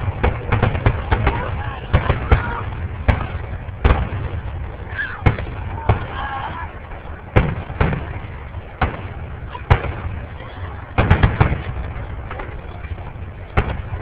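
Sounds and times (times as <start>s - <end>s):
fireworks shells booming: 0.0s - 14.0s.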